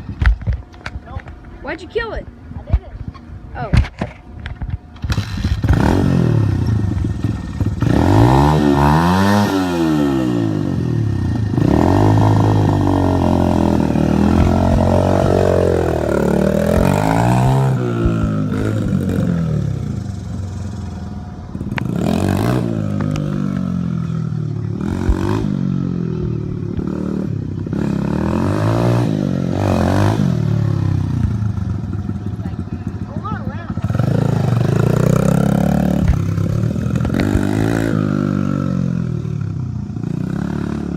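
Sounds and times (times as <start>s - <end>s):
dirt bike engine revving: 5.0s - 40.9s.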